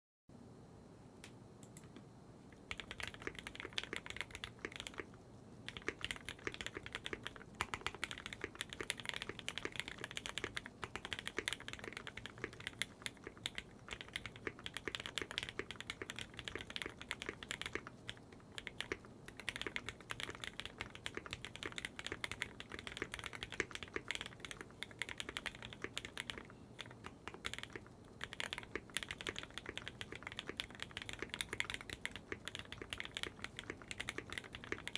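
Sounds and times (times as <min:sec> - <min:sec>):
typing on mechanical keyboard: 0:02.6 - 0:34.9.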